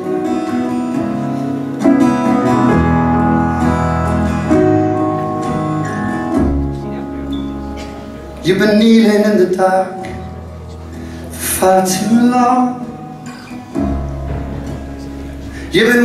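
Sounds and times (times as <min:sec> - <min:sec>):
acoustic guitar strummed: 0:00.0 - 0:16.0.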